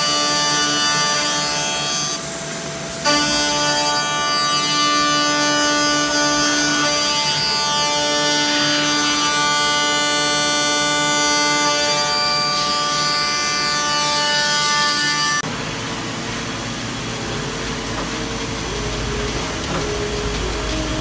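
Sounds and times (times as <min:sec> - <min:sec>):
end mill cutting with low rumble: 0:00.0 - 0:21.0
milling machine cutting whine: 0:00.0 - 0:21.0.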